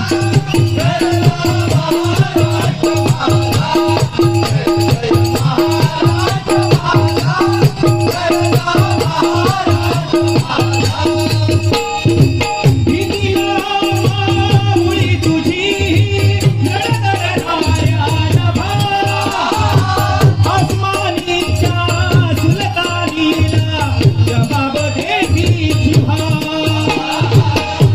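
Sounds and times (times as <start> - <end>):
hand drum beat: 0.0 - 27.9
voices singing: 0.0 - 27.9.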